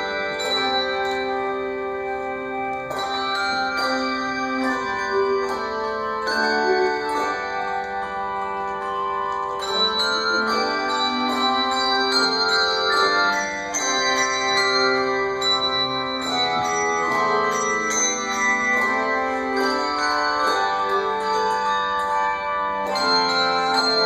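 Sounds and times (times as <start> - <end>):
handbell choir playing: 0.0 - 24.0.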